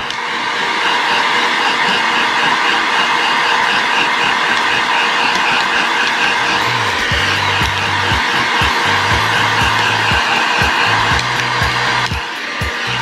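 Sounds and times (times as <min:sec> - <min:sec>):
hot-air gun fan rushing: 0:00.0 - 0:13.0.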